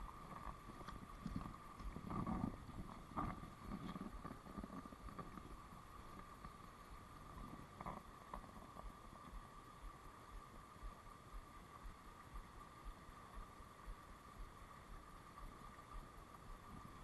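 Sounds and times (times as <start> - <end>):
stream water over weir: 0.0 - 17.0.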